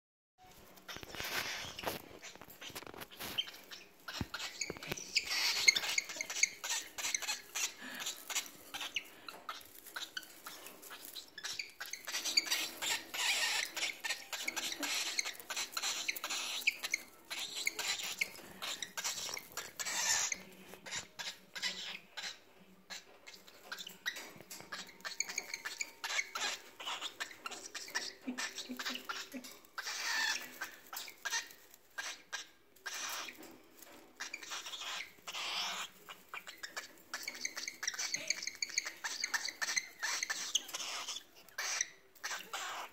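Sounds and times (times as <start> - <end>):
cockatiel squeaking and chirping: 0.5 - 42.9
rustling dry grass nest: 0.5 - 42.9.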